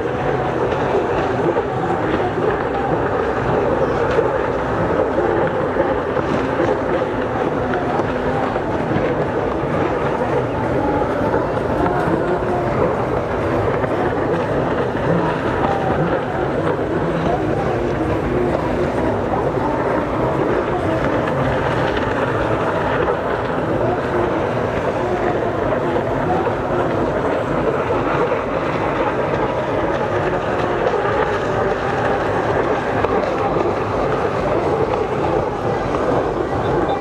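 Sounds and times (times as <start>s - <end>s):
jet ski engines droning: 0.0s - 37.0s.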